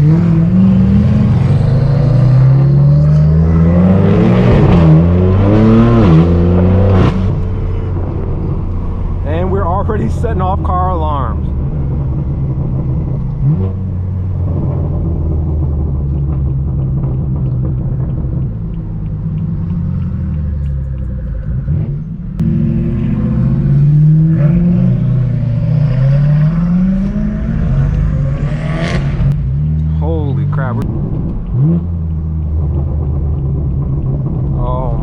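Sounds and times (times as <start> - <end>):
car exhaust revving: 0.0 - 35.0.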